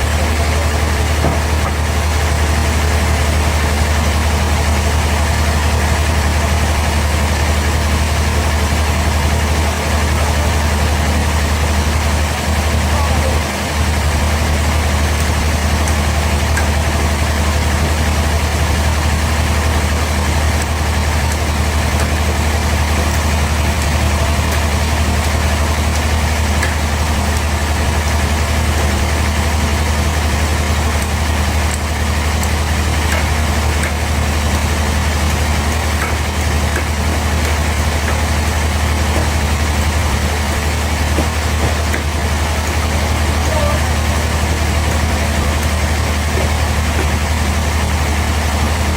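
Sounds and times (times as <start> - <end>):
sawmill machinery drone: 0.0 - 48.9.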